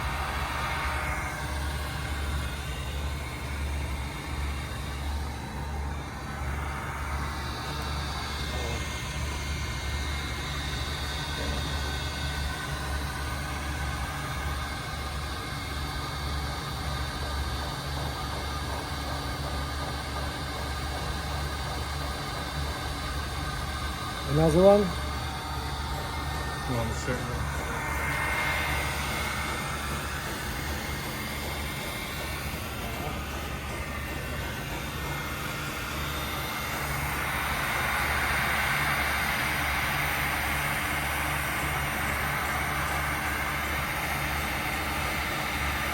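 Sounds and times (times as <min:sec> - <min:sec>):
faint steady whines: 0:00.0 - 0:45.9
low mechanical hum: 0:00.0 - 0:45.9.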